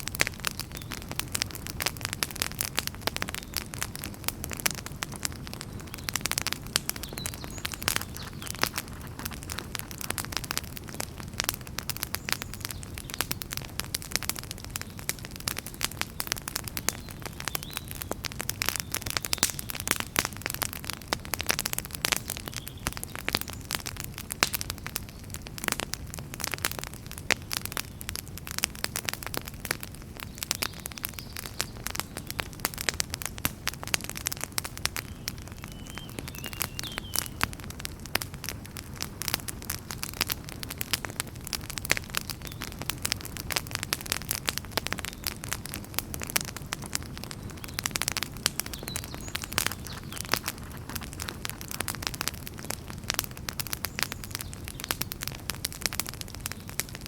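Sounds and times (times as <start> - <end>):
flames rumbling: 0.0 - 57.0
wood fire crackling and popping: 0.0 - 57.0.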